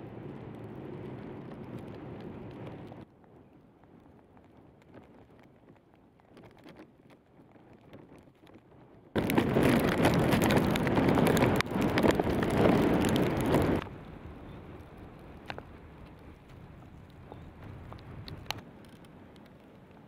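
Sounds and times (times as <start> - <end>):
faint outdoor rumble: 0.0 - 20.0
wind buffeting microphone: 0.0 - 20.0.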